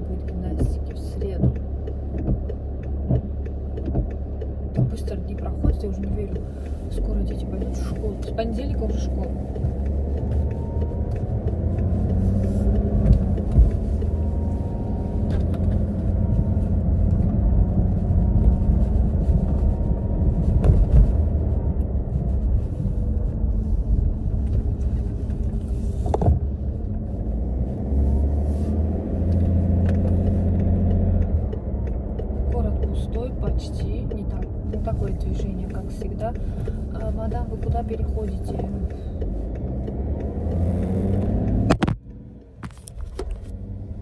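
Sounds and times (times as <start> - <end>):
engine and road rumble: 0.0 - 44.0
faint engine hum: 0.0 - 44.0.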